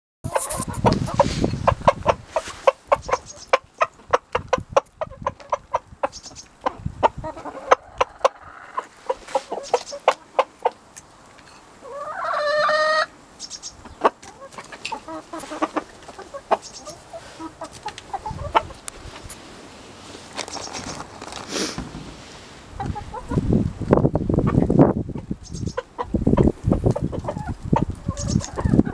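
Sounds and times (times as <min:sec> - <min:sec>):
chickens clucking: 0:00.2 - 0:19.5, 0:20.3 - 0:21.7, 0:22.7 - 0:28.9
drawn-out chicken call: 0:00.3 - 0:10.9, 0:11.8 - 0:19.4, 0:22.7 - 0:23.5, 0:24.4 - 0:28.9.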